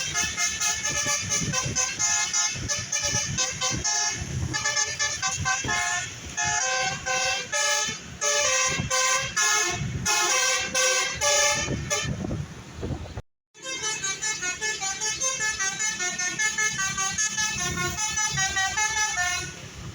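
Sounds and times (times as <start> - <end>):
multi-tone bus horn tune: 0.0 - 12.4, 13.5 - 19.9.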